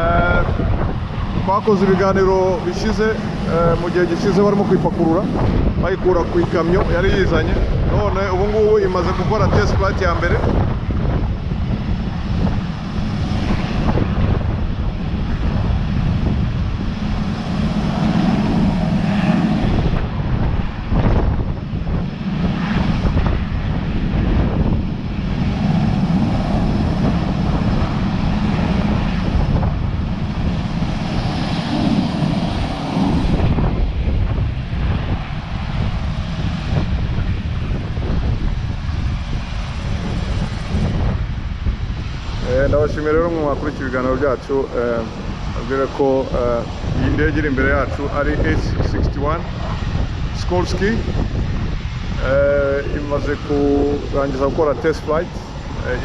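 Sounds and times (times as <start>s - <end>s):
helicopter rotor rumble: 0.0s - 56.0s
turbine whine: 0.0s - 56.0s.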